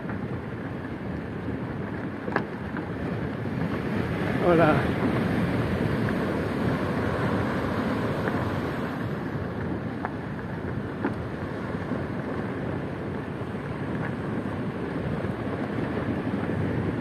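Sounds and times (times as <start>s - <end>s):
ocean surf rushing: 0.0s - 17.0s
wind buffeting microphone: 0.0s - 17.0s.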